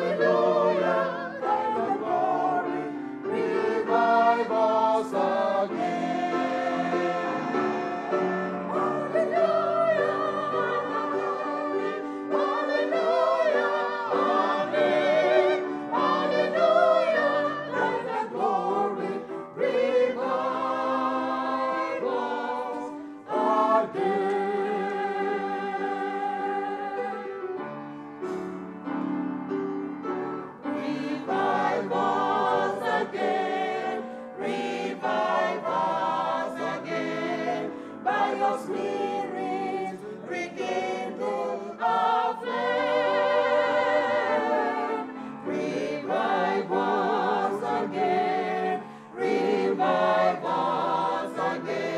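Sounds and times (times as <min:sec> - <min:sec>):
choir singing a hymn: 0:00.0 - 0:51.9.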